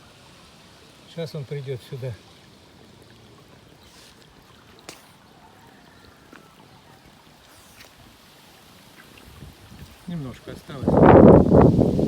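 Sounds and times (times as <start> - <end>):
water trickling through a drain: 0.0 - 12.0.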